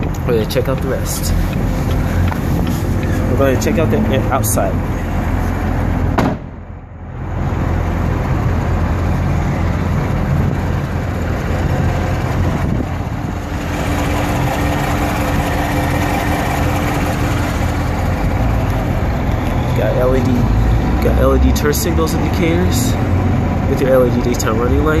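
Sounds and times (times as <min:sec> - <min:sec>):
steady hum: 0:00.0 - 0:20.5
car engine idling: 0:00.0 - 0:25.0.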